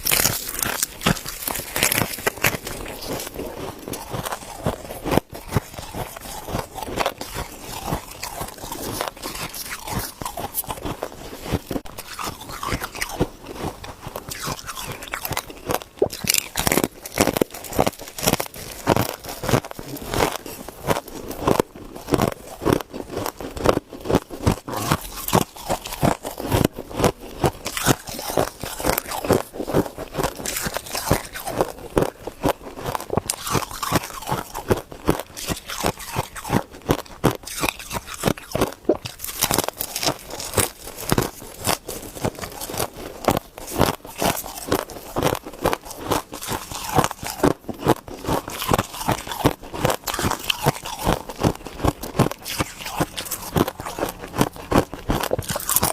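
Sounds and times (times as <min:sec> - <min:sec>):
ice crunching being chewed: 0:00.0 - 0:55.9.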